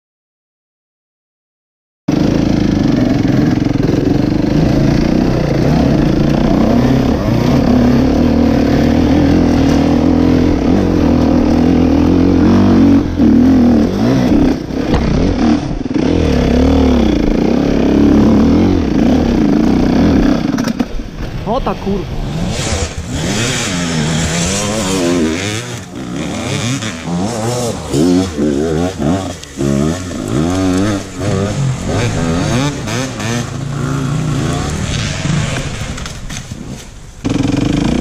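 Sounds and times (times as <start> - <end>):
dirt bike engine revving: 2.1 - 38.0.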